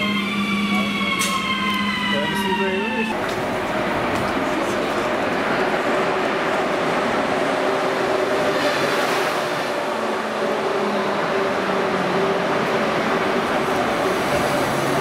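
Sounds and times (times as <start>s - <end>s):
electric locomotive whine: 0.0s - 15.0s
train wheels rolling on rails: 0.0s - 15.0s.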